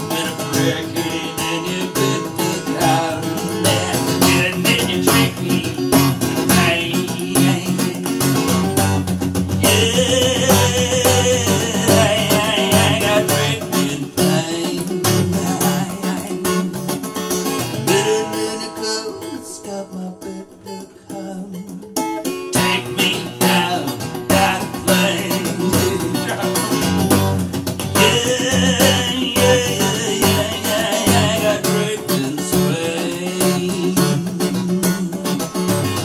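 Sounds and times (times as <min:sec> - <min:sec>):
acoustic guitar background music: 0:00.0 - 0:36.0.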